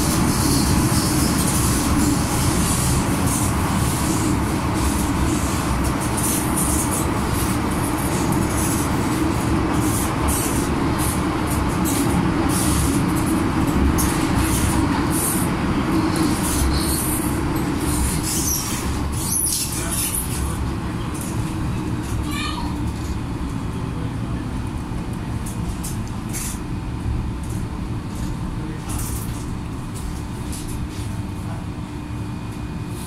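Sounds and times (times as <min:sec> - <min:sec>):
train wheels rumbling in tunnel: 0:00.0 - 0:33.0.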